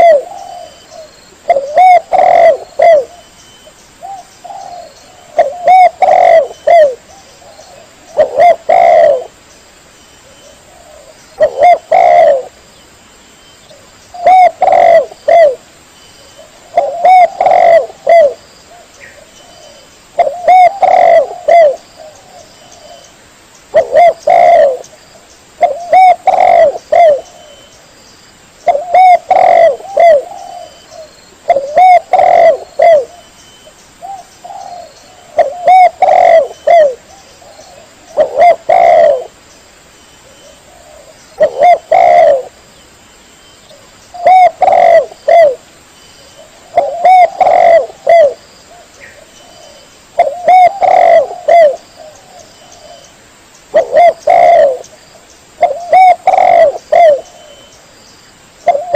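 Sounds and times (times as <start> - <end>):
dove cooing: 0.0 - 3.3, 4.0 - 9.4, 10.2 - 12.6, 13.7 - 15.6, 16.4 - 23.1, 23.7 - 24.9, 25.6 - 27.7, 28.6 - 33.3, 34.0 - 39.4, 40.2 - 42.6, 43.7 - 45.7, 46.3 - 53.1, 53.7 - 55.0, 55.6 - 57.7, 58.6 - 58.9.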